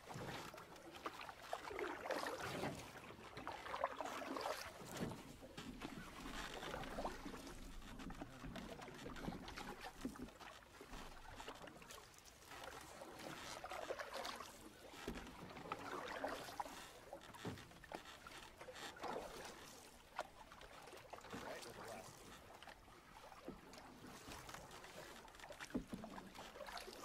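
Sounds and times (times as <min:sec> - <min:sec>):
canoe paddle strokes in water: 0:00.0 - 0:27.0.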